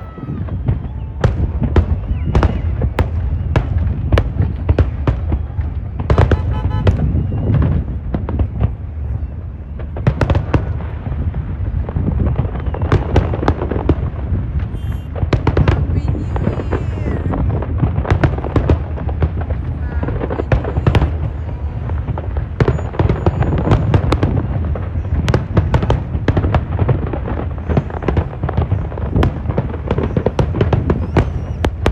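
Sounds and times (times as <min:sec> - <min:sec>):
firework bangs: 0:00.0 - 0:31.9
low rumble of explosions: 0:00.0 - 0:31.9.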